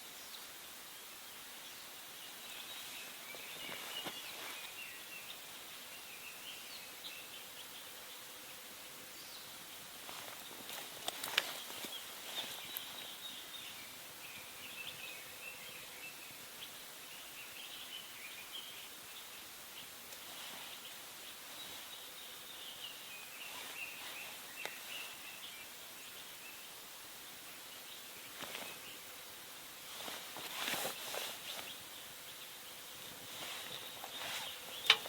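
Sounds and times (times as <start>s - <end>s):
outdoor hiss: 0.0s - 35.0s
small birds chirping: 0.0s - 35.0s.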